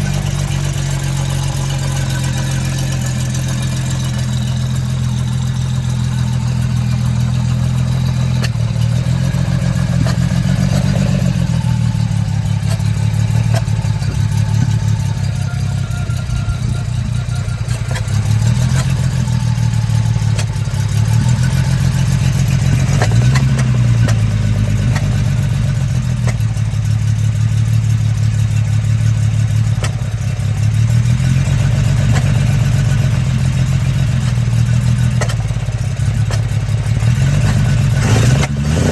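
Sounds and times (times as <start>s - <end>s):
car engine revving while driving: 0.0s - 26.5s, 30.7s - 38.9s.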